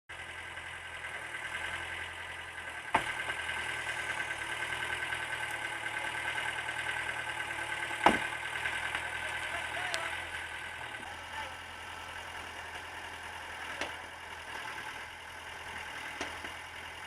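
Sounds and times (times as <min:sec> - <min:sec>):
engine idling: 0:00.1 - 0:17.0.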